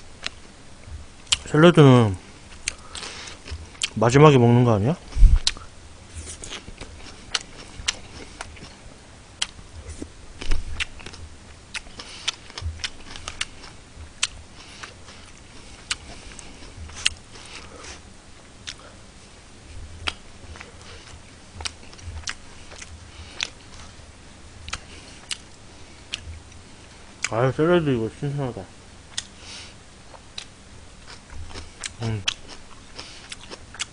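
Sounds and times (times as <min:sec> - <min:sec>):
man chewing crunchy food: 0:02.5 - 0:04.0, 0:05.0 - 0:19.0, 0:20.0 - 0:27.3, 0:29.1 - 0:33.9.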